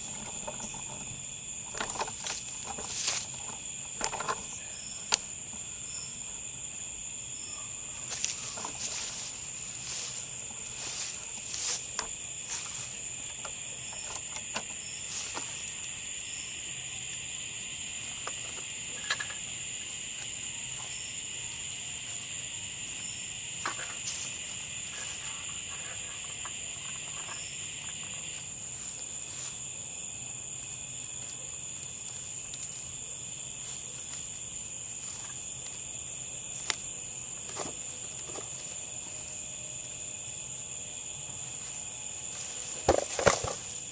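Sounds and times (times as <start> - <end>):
high-pitched insect chorus: 0.0 - 43.9
lower insect layer: 0.0 - 43.9.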